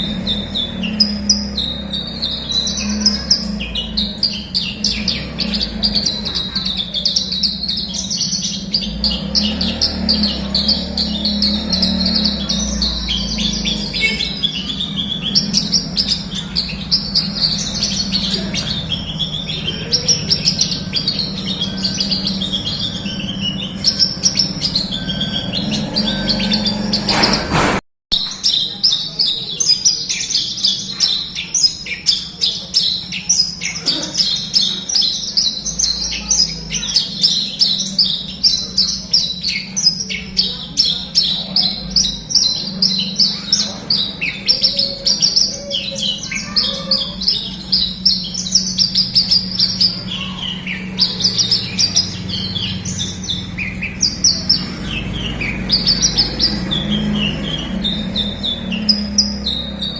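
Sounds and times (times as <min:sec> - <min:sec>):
bird singing fast chirps and trills: 0:00.0 - 0:59.9.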